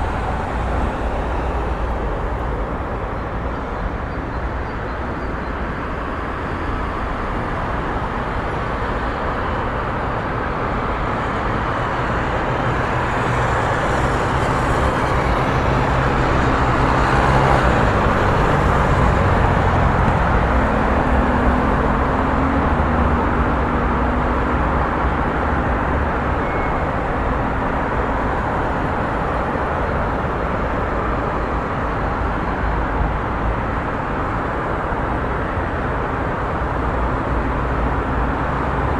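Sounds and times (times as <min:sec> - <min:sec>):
road noise from passing cars: 0:00.0 - 0:38.9.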